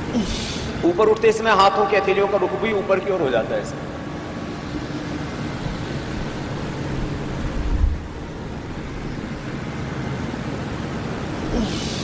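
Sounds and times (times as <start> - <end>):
background hiss and rumble: 0.0 - 12.0.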